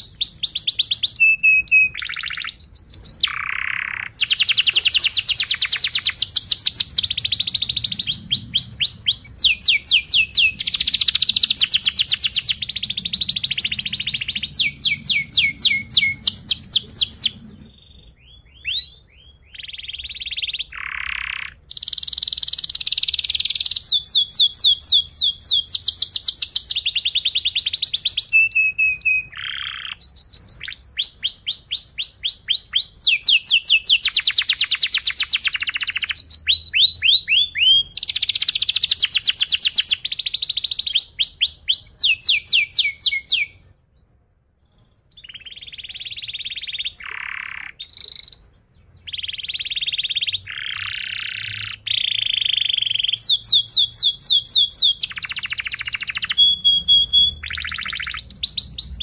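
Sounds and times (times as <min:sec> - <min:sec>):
canary singing trills and chirps: 0:00.0 - 0:59.0.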